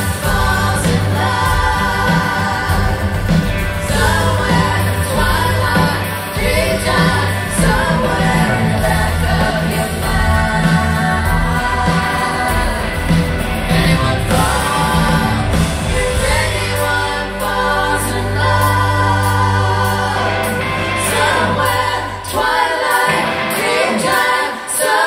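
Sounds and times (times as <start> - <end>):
bass line: 0.0 - 22.3
lead and backing vocals: 0.0 - 25.0
live rock band playing: 0.0 - 25.0.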